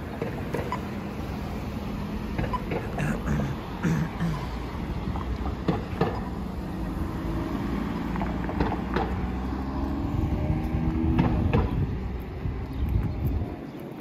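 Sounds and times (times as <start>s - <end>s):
cars driving past: 0.0s - 14.0s
steady engine hum: 0.0s - 14.0s.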